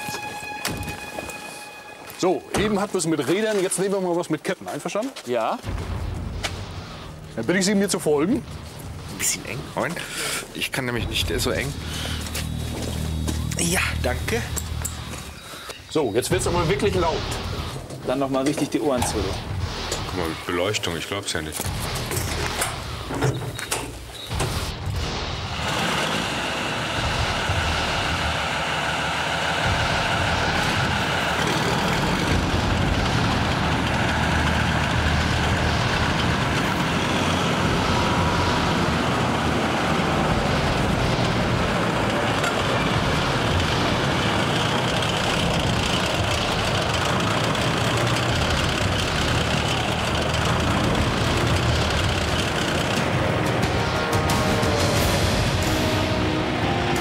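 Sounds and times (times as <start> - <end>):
tracked vehicle engine and tracks: 0.0 - 57.0.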